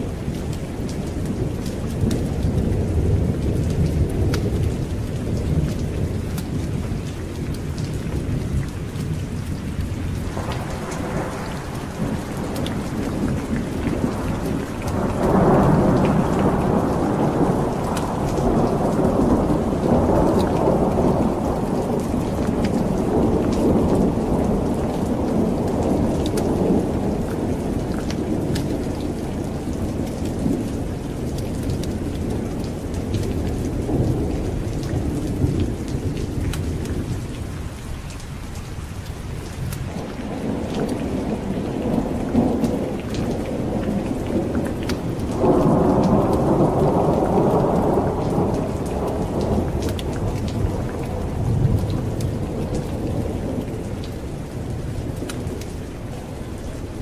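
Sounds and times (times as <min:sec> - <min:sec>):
rolling thunder: 0:00.0 - 0:37.8, 0:39.2 - 0:57.0
steady rain: 0:00.0 - 0:57.0.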